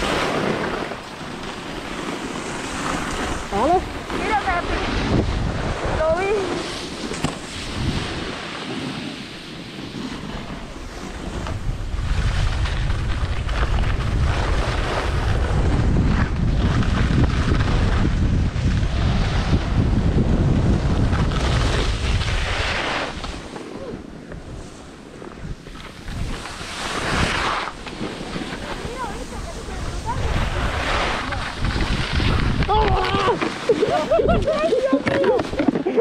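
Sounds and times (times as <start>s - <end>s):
skis hissing on packed snow: 0.0s - 35.0s
wind buffeting microphone: 0.0s - 36.0s.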